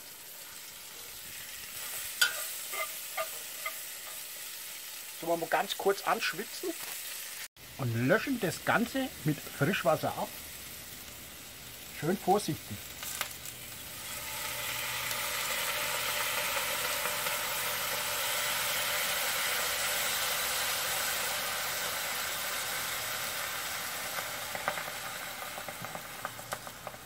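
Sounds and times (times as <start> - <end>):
water hissing in hot pot: 0.0 - 27.0.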